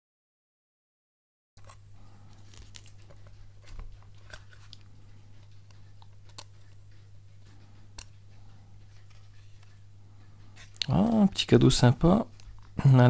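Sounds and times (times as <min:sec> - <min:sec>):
steady low hum: 0:01.6 - 0:13.0.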